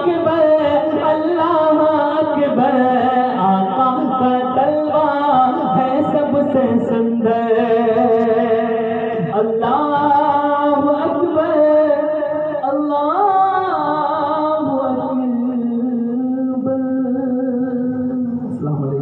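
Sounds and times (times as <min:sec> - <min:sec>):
person singing devotional song: 0:00.0 - 0:19.0.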